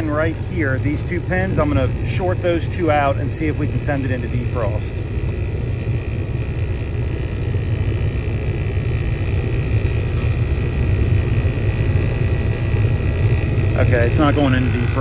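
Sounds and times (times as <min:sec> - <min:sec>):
heat pump steady low hum: 0:00.0 - 0:15.0.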